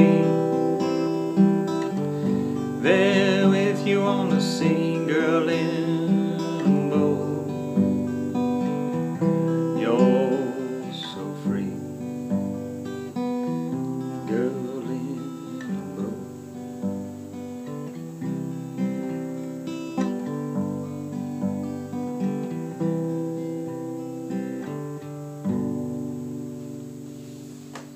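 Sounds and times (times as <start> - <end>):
acoustic guitar picked chords: 0.0 - 27.9.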